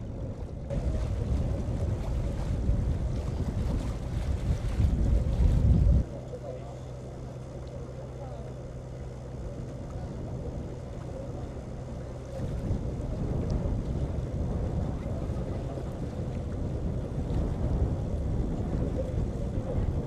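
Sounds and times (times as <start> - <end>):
wind on microphone: 0.0 - 6.2, 9.1 - 20.0
boat motor running: 0.0 - 20.0.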